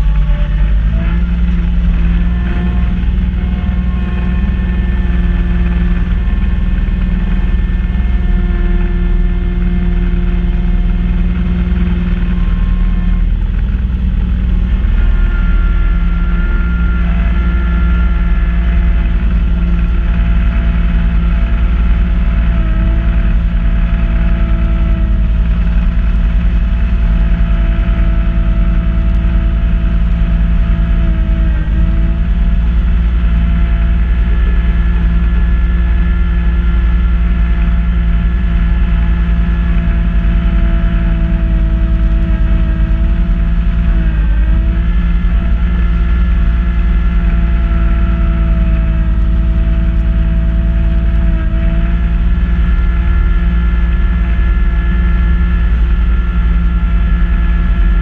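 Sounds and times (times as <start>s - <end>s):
steady tones dipping in pitch: 0.0s - 58.0s
tractor diesel engine running: 0.0s - 58.0s.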